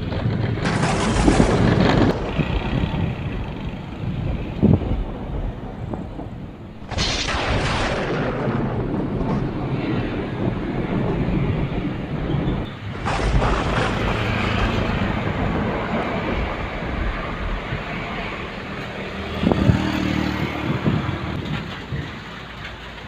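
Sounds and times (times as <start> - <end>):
thunder cracking and rumbling: 0.0 - 23.0.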